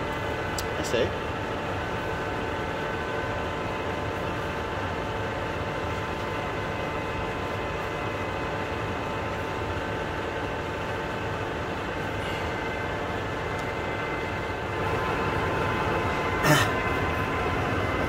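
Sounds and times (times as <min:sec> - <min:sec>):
lathe mechanical hum: 0:00.0 - 0:18.0
motor and gear whine: 0:00.0 - 0:18.0.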